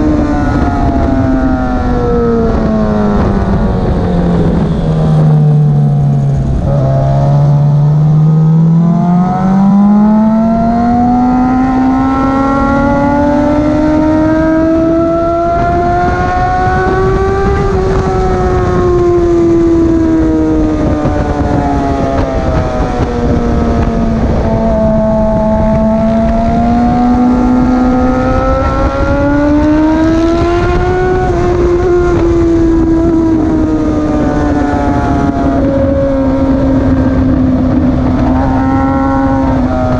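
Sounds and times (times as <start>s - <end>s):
motorcycle engine running hard: 0.0s - 39.9s
wind rumble on microphone: 0.0s - 39.9s.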